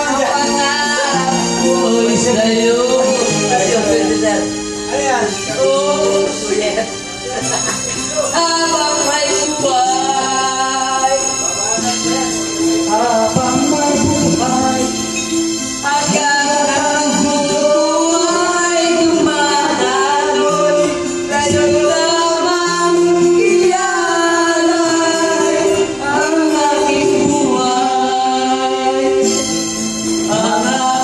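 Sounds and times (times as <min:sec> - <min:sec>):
men singing karaoke: 0:00.0 - 0:31.0
music backing track: 0:00.0 - 0:31.0.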